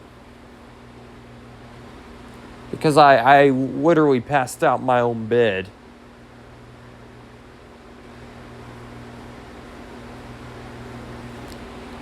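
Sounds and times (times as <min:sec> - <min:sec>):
constant hiss: 0:00.0 - 0:12.0.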